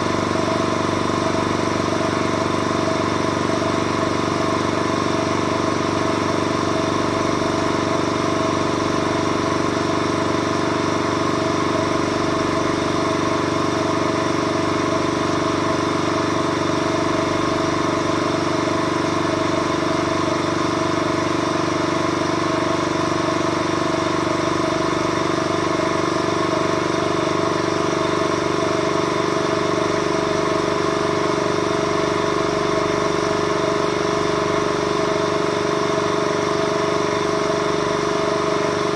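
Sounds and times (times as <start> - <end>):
vacuum pump humming: 0.0 - 38.9.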